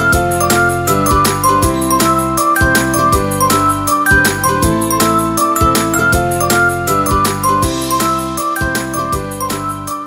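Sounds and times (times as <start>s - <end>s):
melody over steady beat: 0.2s - 8.6s.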